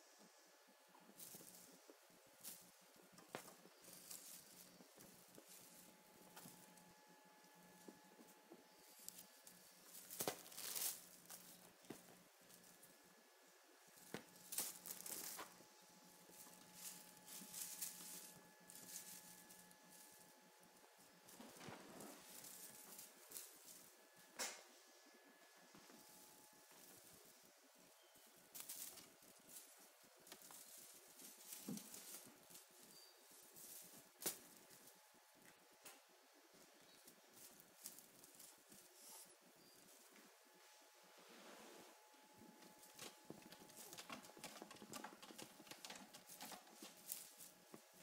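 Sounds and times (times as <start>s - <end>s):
faint steady hum: 0.0s - 48.0s
kittens scuffling: 0.2s - 48.0s.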